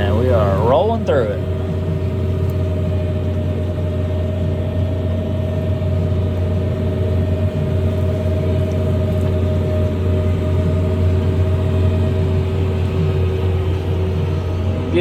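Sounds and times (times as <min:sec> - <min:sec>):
tractor engine droning with whine: 0:00.0 - 0:15.0.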